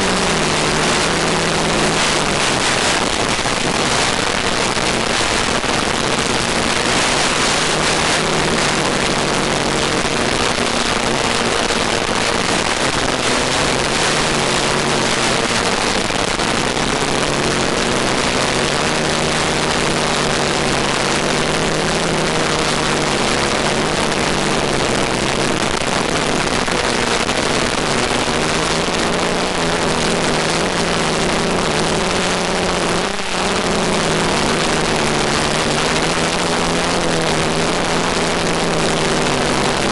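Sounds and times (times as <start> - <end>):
drone propellers whirring: 0.0 - 39.9
steady hiss: 0.0 - 39.9.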